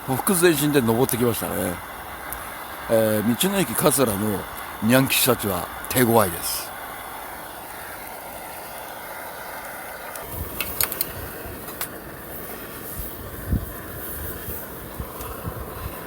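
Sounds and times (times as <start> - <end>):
camping stove hissing: 0.0 - 16.0.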